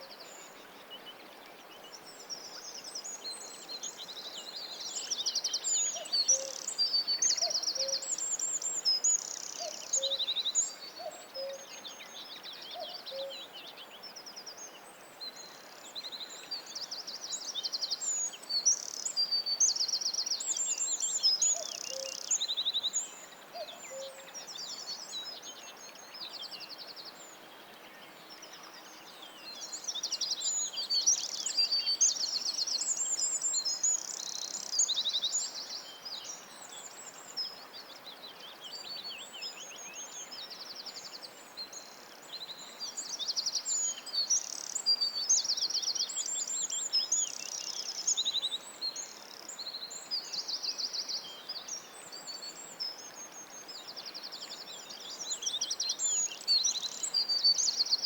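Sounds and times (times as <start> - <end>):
faint background hiss: 0.0 - 58.0
songbirds chorus: 0.0 - 58.0.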